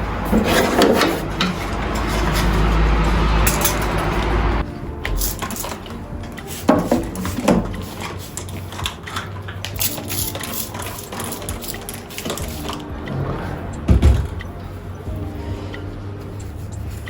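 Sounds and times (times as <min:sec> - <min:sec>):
objects clicking and knocking: 0:00.2 - 0:04.4, 0:05.0 - 0:14.6.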